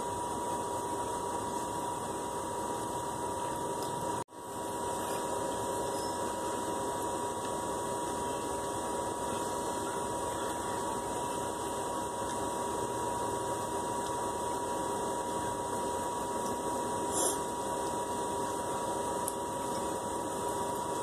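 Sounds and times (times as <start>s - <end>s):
constant high tone: 0.0s - 21.0s
machine-like hum: 0.0s - 21.0s.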